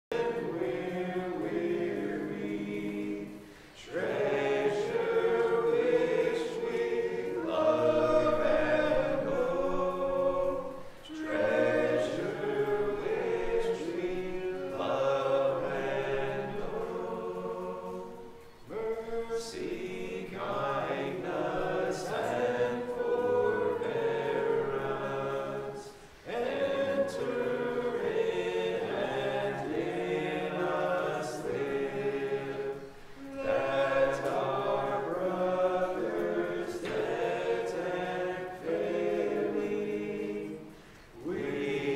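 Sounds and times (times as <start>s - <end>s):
congregation singing a hymn: 0.0s - 41.9s.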